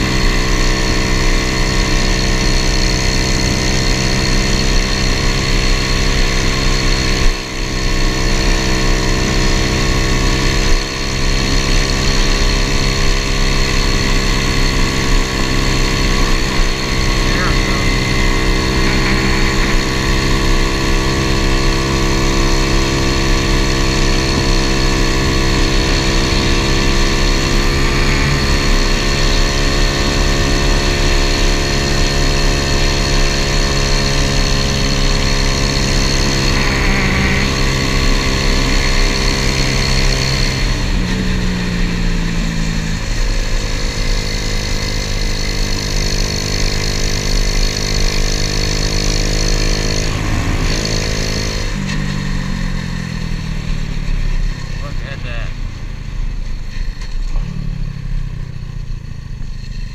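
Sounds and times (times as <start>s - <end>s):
small motorbike engine running: 0.0s - 59.9s.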